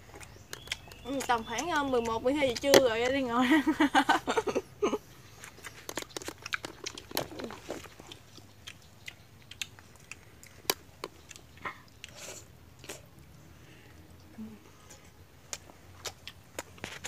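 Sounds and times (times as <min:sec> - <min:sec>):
chewing and lip-smacking: 0:00.0 - 0:03.3, 0:05.0 - 0:17.0.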